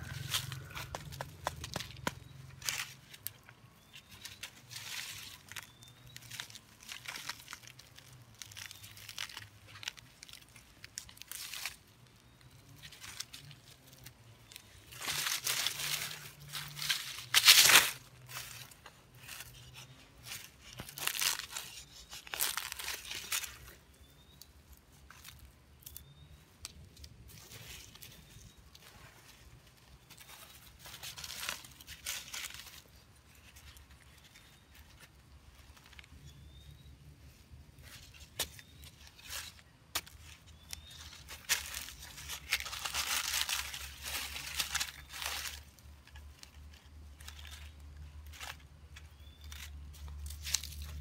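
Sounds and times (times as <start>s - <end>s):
hands rustling through dry leaves: 0.0s - 51.0s.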